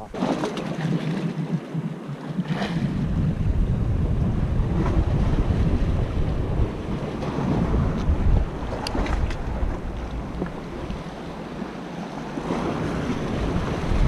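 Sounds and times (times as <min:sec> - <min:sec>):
waves washing against rocks: 0:00.0 - 0:14.0
wind buffeting microphone: 0:00.0 - 0:14.0.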